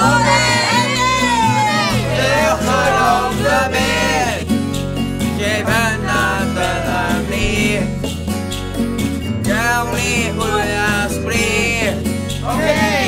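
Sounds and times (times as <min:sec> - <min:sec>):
person singing: 0:00.0 - 0:04.5, 0:05.3 - 0:08.1, 0:09.5 - 0:13.0
upbeat song with guitar: 0:00.0 - 0:13.0.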